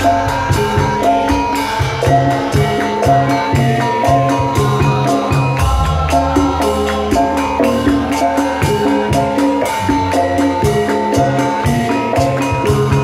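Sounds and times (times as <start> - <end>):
low drum beat: 0.0 - 13.0
metallophones playing melody: 0.0 - 13.0
sharp high percussion strokes: 0.0 - 13.0.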